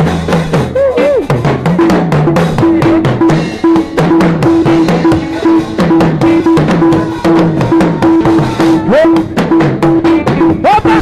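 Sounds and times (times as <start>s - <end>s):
drum kit beating: 0.0s - 11.0s
sliding bass line: 0.0s - 11.0s.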